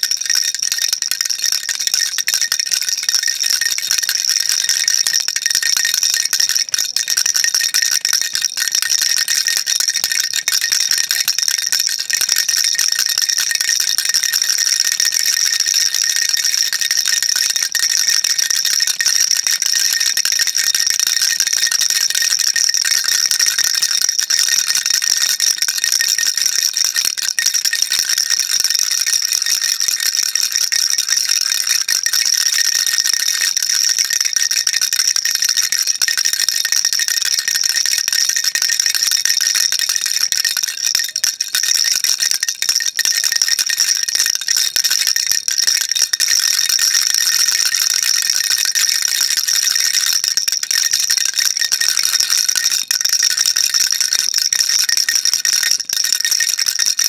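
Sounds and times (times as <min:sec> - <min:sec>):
baby rattle shaking: 0:00.0 - 0:26.4, 0:31.7 - 0:50.2, 0:54.7 - 0:55.9.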